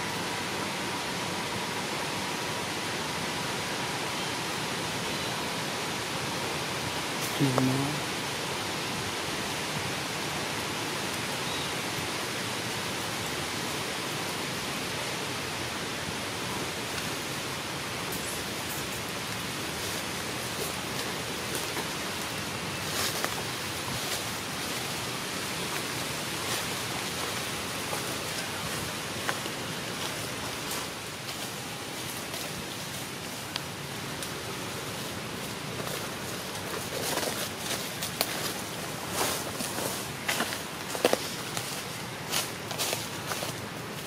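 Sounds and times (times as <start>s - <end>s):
steady hiss: 0.0s - 44.0s.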